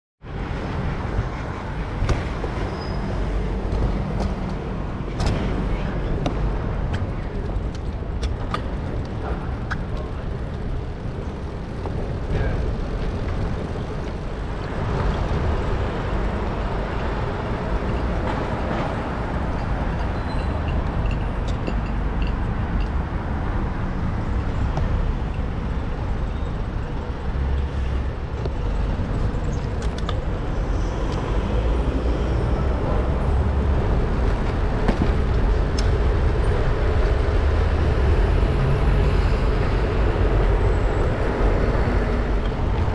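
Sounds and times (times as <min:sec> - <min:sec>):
cars and buses passing: 0:00.2 - 0:42.9
heavy low traffic rumble: 0:00.2 - 0:42.9.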